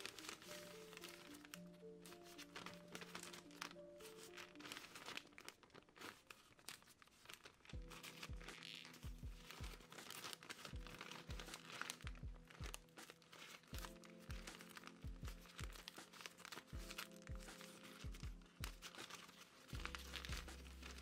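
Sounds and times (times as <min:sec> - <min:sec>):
paper bag crinkling: 0:00.0 - 0:21.0
soft lo-fi music: 0:00.0 - 0:21.0.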